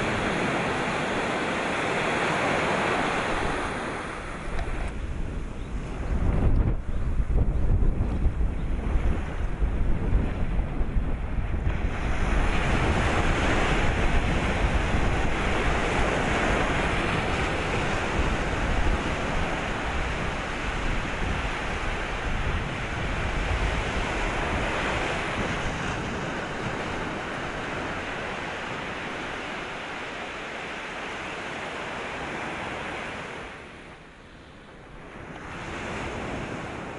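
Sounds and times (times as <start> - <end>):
sea waves breaking: 0.0 - 36.9
wind rumbling on microphone: 0.0 - 36.9.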